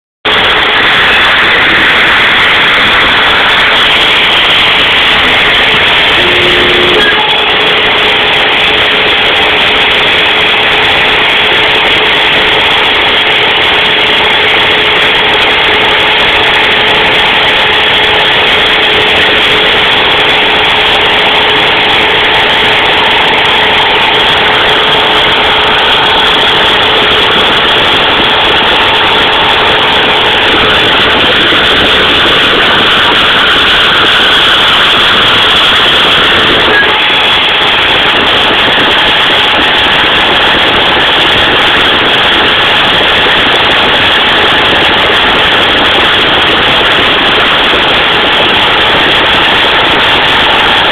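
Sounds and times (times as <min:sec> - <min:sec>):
router spindle whine cutting metal: 0:00.3 - 0:50.9.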